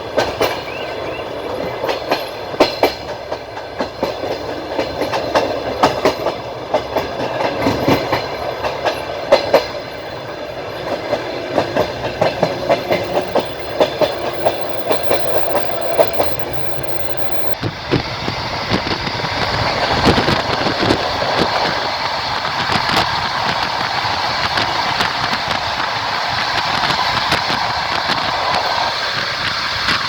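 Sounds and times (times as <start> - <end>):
train rolling rumble: 0.0 - 30.0
train wheels clacking: 0.0 - 30.0.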